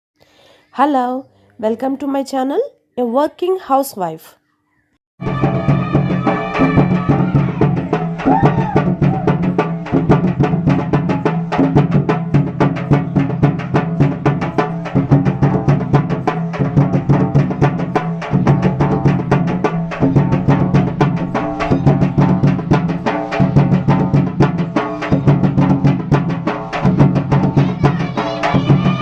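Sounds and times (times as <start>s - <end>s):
fast driving drumming: 5.2s - 29.0s.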